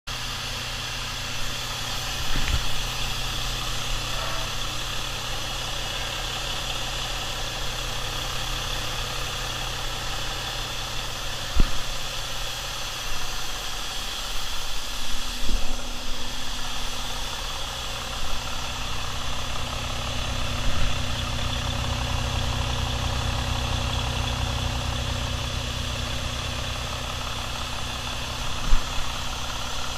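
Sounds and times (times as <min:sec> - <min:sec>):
diesel truck engine idling: 0:00.1 - 0:29.9.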